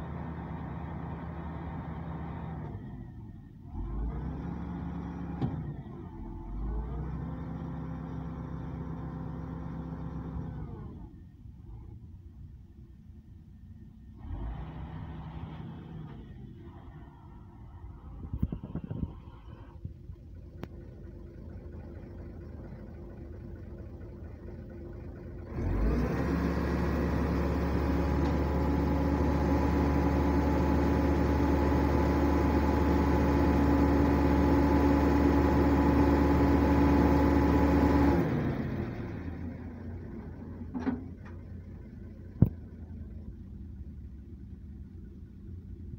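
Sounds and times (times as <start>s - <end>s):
truck engine droning: 0.0s - 45.9s.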